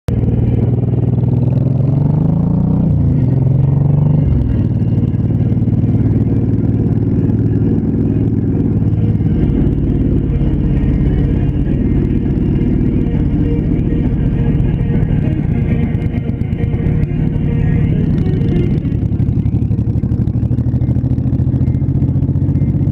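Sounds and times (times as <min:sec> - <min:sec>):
motorcycle engine running: 0:00.1 - 0:22.9.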